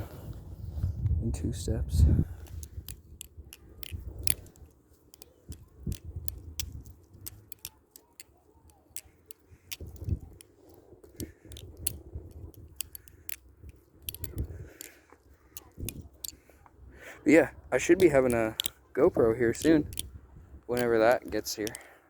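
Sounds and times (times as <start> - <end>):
butterfly knife clicking: 2.4 - 16.6, 17.8 - 21.9.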